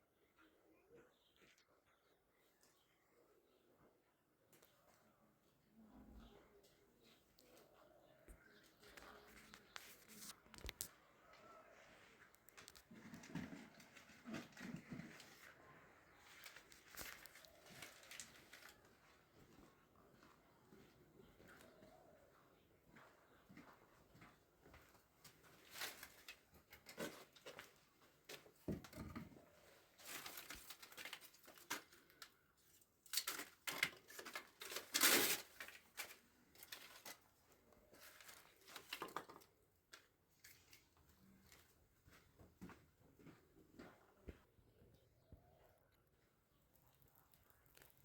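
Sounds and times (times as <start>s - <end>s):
rustling and crinkling: 6.0s - 22.2s, 22.9s - 44.5s, 45.3s - 48.0s.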